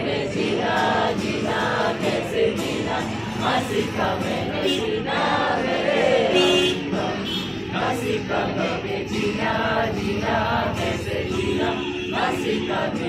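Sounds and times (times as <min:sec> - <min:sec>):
group singing in unison: 0:00.0 - 0:13.0
strummed acoustic guitar: 0:00.0 - 0:13.0.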